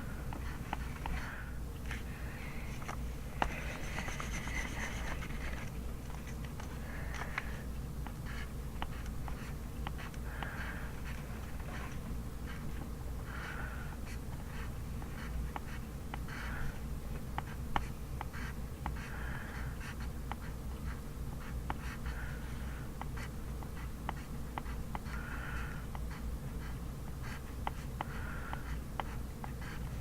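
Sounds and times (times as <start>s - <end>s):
pencil writing on paper: 0.2s - 2.1s, 2.7s - 16.8s, 17.4s - 30.0s.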